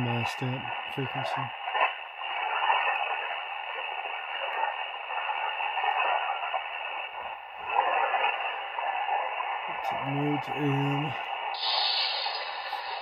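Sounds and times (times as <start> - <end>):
shortwave radio static hiss: 0.0 - 13.0.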